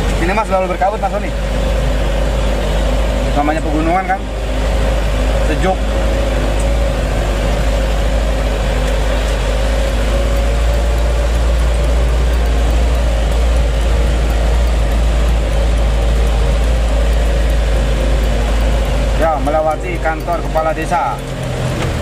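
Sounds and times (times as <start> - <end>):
constant hum: 0.0 - 22.0
deep rumble: 0.0 - 22.0
diesel engine drone: 0.0 - 22.0
road noise: 0.0 - 22.0.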